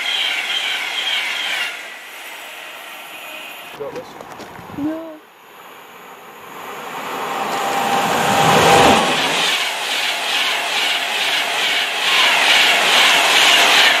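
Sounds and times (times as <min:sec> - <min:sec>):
electric train passing at speed: 0:00.0 - 0:03.9, 0:05.3 - 0:14.0.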